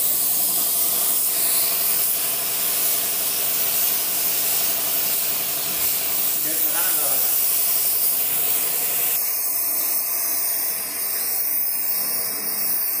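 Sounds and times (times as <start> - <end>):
paint spray gun hissing: 0.0 - 13.0.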